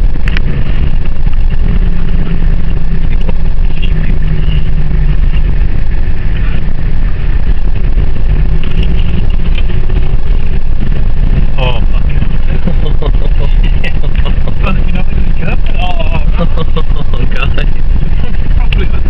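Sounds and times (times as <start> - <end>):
car engine: 0.0 - 19.0
road noise: 0.0 - 19.0.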